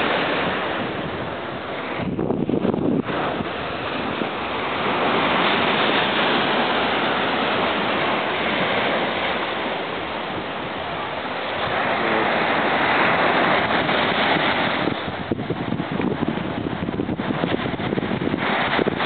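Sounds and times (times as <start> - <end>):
surf washing onto beach: 0.0 - 19.0.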